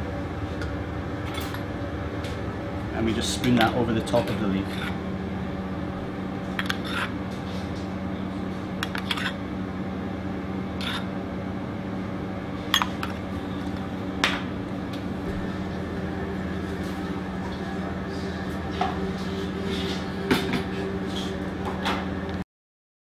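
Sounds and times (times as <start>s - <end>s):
steady background hum: 0.0s - 22.4s.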